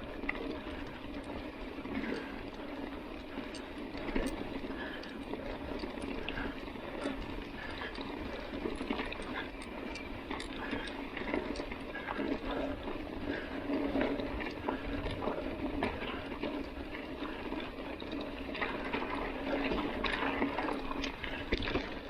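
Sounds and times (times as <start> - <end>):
bike clicks and rattles: 0.0 - 22.0
bike tyres rolling on dirt: 0.0 - 22.0.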